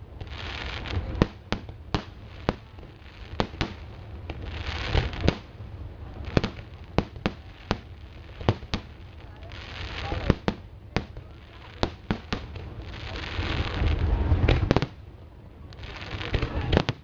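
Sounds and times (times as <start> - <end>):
crackling hiss: 0.0 - 17.0
firework bangs: 0.0 - 17.0.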